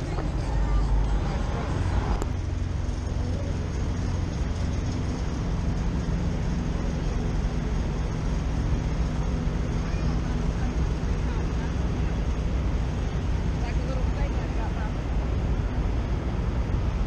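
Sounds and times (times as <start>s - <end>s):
large engine idling: 0.0s - 17.0s.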